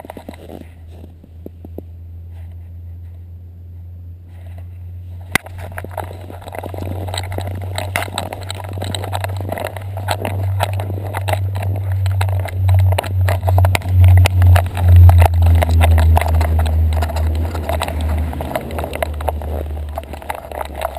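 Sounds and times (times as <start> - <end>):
low rumble: 0.0 - 20.9.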